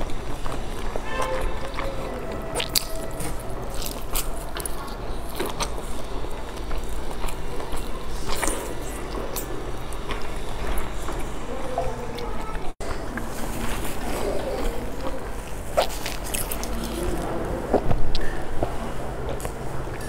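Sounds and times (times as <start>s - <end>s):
chewing food: 0.0s - 20.0s.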